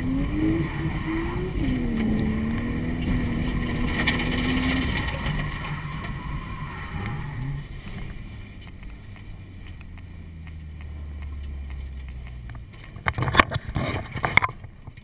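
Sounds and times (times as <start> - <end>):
car engine revving and idling: 0.0 - 14.7.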